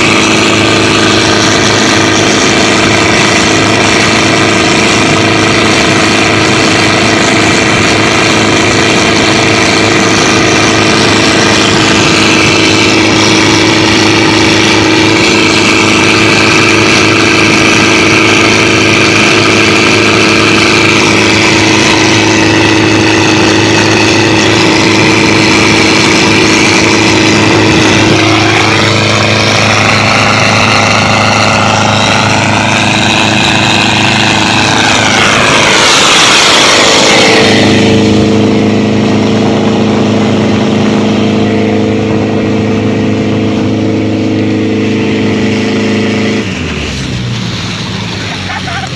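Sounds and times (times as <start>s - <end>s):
motorboat engine running: 0.0s - 48.9s
wake rushing along hull: 0.0s - 48.9s.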